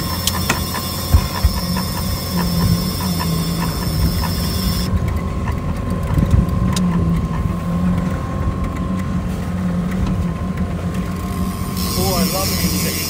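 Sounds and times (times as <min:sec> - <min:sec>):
outboard motor humming: 0:00.0 - 0:13.0
water noise: 0:00.0 - 0:13.0
wind: 0:00.0 - 0:13.0.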